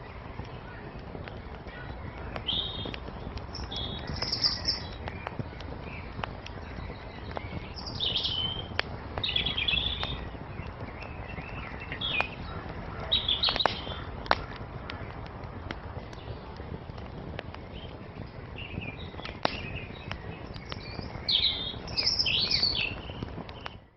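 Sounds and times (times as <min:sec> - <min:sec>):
wood fire crackling and popping: 0:00.0 - 0:23.9
bird chirps: 0:01.6 - 0:15.2, 0:17.7 - 0:23.8.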